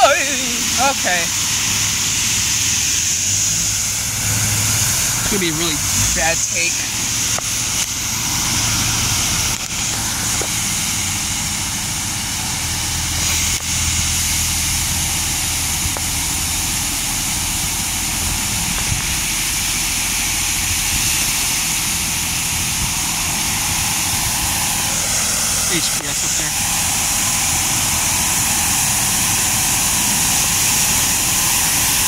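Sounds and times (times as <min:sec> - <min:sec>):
high-pressure water spray hissing: 0:00.0 - 0:32.0
low even hum: 0:00.0 - 0:32.0.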